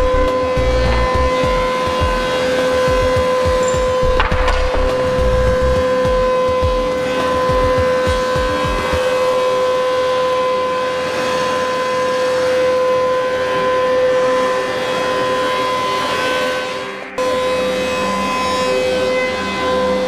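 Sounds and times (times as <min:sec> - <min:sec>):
planer whining: 0:00.0 - 0:20.0.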